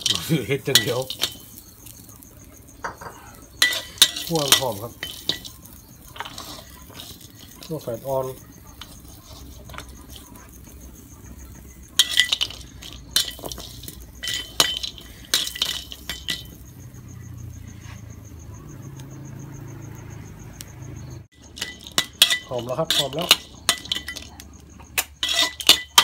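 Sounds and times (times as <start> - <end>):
metal spatula scraping a wok: 0.0 - 17.0, 21.4 - 24.4, 25.1 - 26.0.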